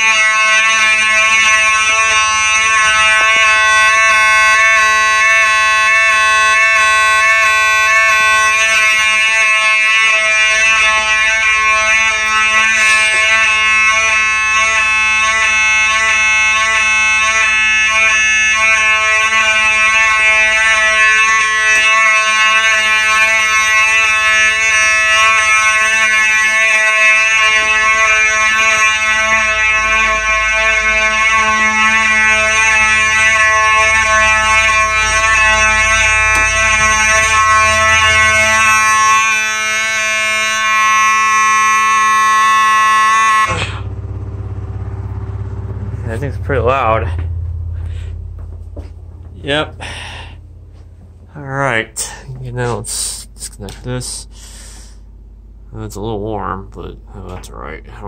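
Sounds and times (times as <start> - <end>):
fire alarm horn buzzing: 0.0 - 55.8.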